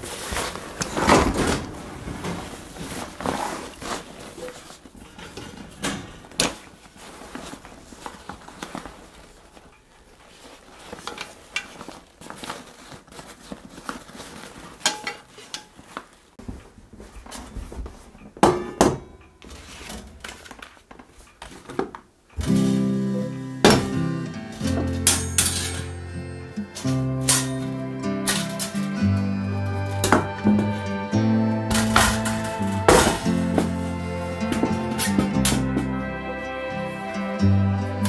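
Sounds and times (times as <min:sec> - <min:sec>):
fabric bag rustling: 0:00.0 - 0:05.2, 0:06.2 - 0:18.1, 0:24.6 - 0:38.0.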